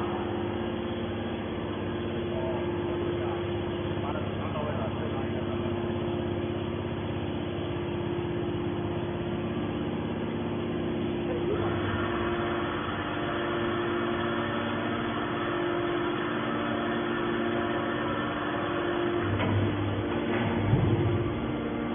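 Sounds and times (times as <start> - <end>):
baler machine hum: 0.0 - 21.9
high machine whine: 0.0 - 21.9.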